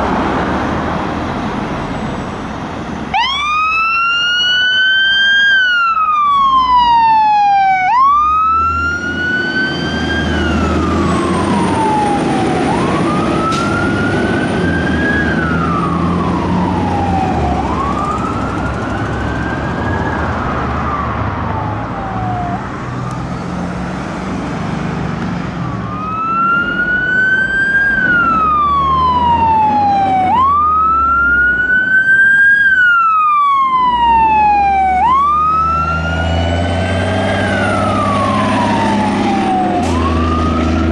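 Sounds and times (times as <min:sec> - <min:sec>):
fire truck siren wailing: 0:00.0 - 0:40.9
truck engine rumble: 0:00.0 - 0:40.9.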